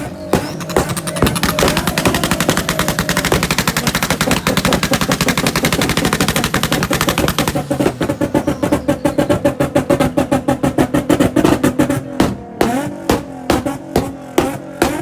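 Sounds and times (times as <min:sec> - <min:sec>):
car engine at high revs: 0:00.0 - 0:15.0
car exhaust popping: 0:00.0 - 0:15.0.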